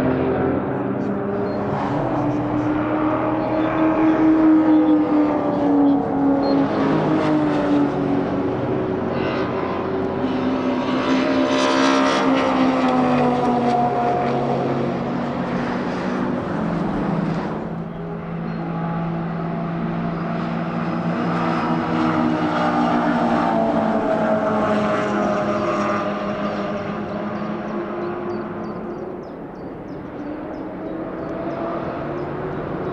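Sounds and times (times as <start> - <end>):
racing car engines passing: 0.0 - 32.9.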